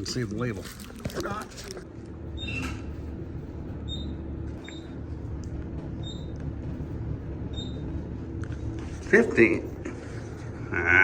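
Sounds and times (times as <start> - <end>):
elevator low hum: 1.6 - 11.0.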